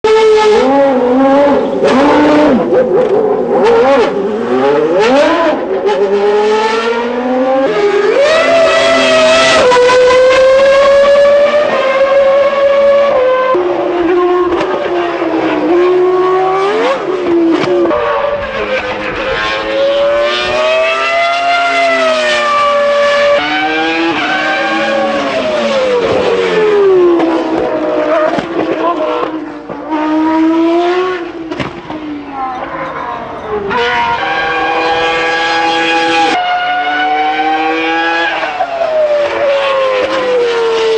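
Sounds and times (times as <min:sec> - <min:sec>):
racing car engine at high revs: 0:00.0 - 0:40.9.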